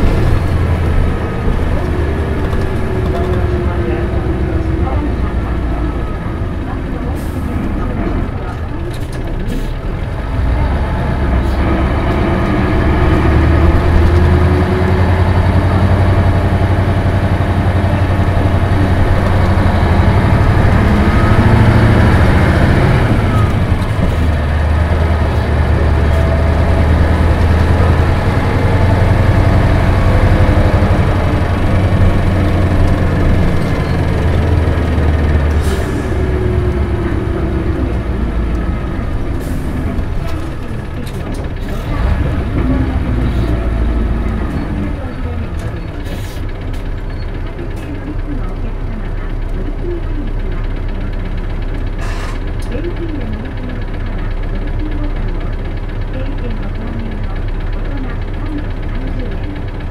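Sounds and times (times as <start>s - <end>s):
bus diesel engine droning: 0.0s - 59.9s
road noise: 0.0s - 59.9s.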